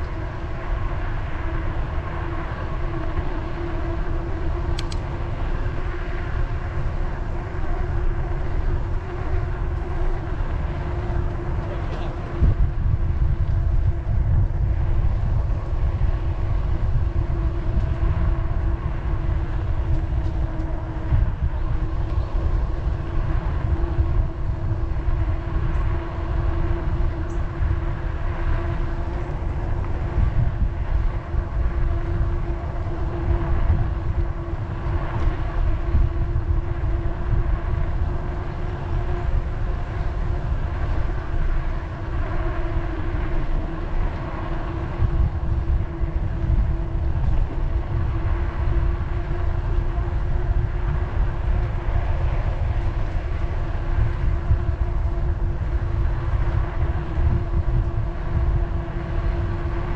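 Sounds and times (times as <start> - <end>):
bicycle road rumble: 0.0 - 59.9
steady whine: 0.0 - 59.9
wind buffeting microphone: 0.0 - 59.9.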